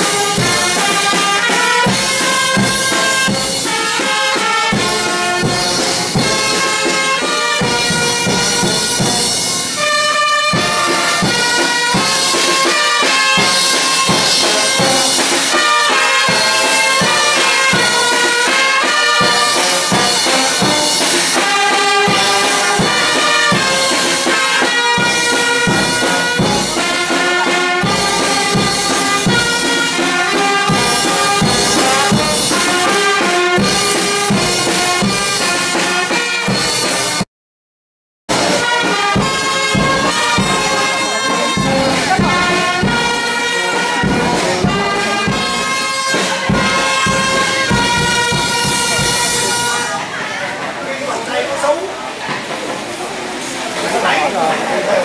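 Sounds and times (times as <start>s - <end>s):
drum beats: 0.0s - 37.2s, 38.3s - 55.0s
reedy wind instrument melody: 0.0s - 37.2s, 38.3s - 55.0s.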